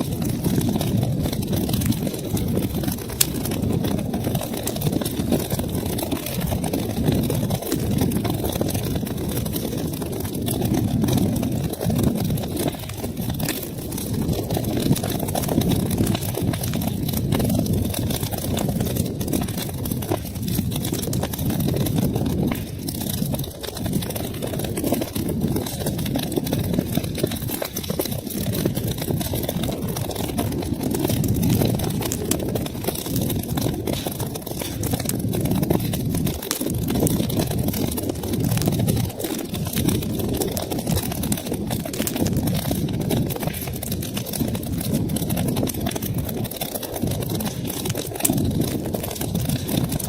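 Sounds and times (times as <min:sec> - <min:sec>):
fire crackling in fireplace: 0:00.0 - 0:50.0.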